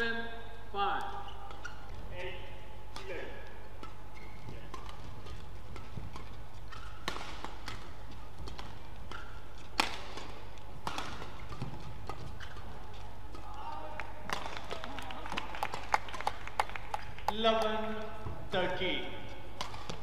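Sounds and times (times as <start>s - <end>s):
rackets striking shuttlecock: 0.9s - 16.4s, 17.0s - 20.0s.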